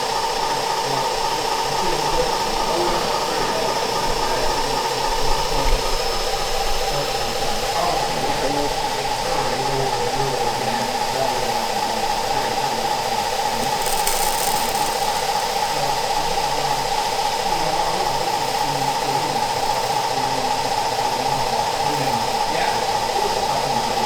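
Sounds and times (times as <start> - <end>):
faint murmur of voices: 0.0 - 24.0
hall hum and hiss: 0.0 - 24.0.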